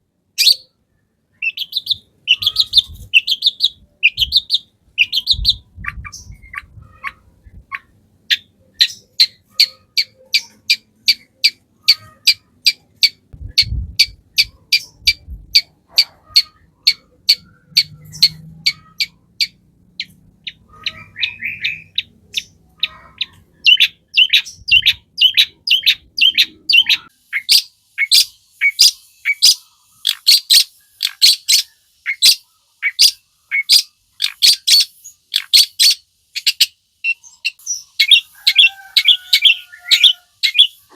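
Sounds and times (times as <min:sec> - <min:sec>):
shrike singing harsh chips: 0:01.4 - 0:40.9.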